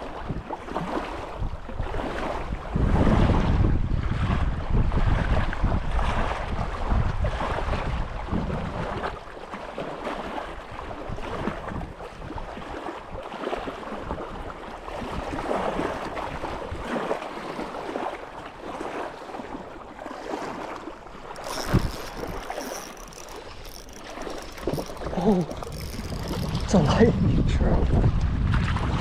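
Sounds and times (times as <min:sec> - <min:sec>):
wind on microphone: 0:00.0 - 0:09.3, 0:10.5 - 0:19.0, 0:20.2 - 0:29.0
lake water lapping and splashing: 0:00.0 - 0:29.0.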